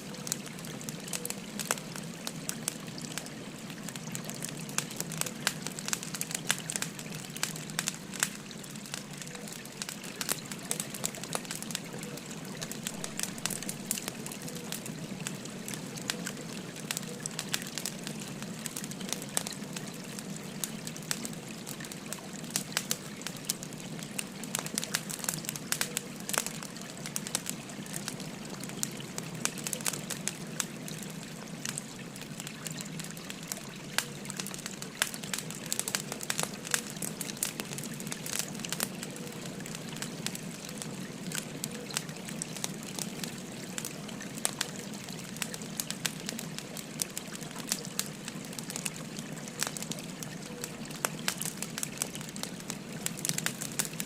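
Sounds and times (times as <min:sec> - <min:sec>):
firewood crackling and popping: 0:00.0 - 0:54.0
stream trickling: 0:00.0 - 0:54.0.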